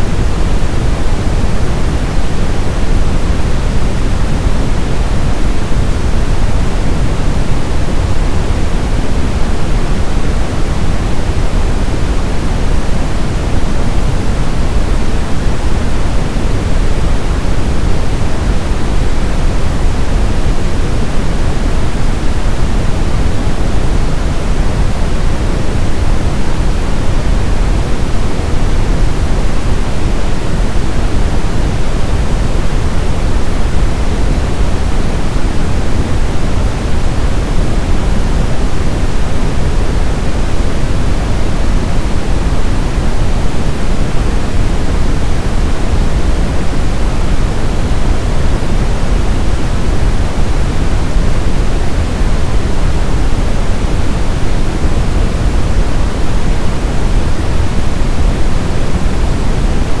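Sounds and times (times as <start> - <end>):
brown noise: 0.0 - 60.0.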